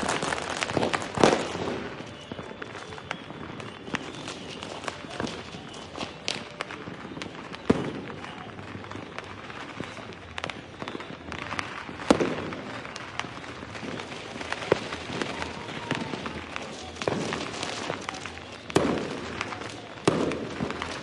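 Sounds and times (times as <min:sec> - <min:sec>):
fireworks crackles and pops: 0:00.0 - 0:21.0
loud fireworks bangs: 0:00.0 - 0:21.0.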